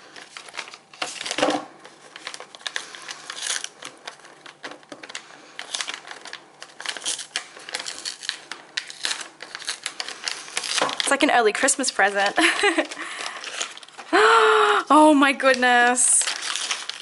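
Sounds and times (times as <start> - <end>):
paper crinkling and rustling: 0.0 - 14.2, 15.4 - 17.0.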